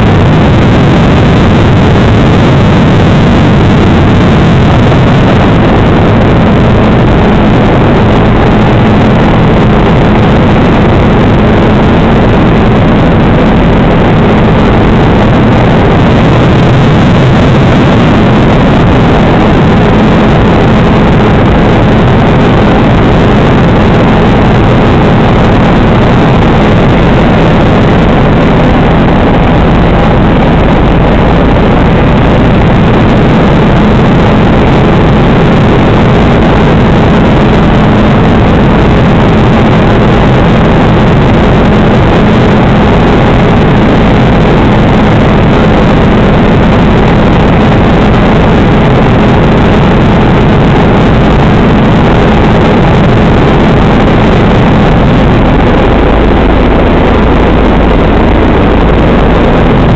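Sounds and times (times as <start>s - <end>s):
helicopter engine and rotors drone: 0.0s - 59.9s.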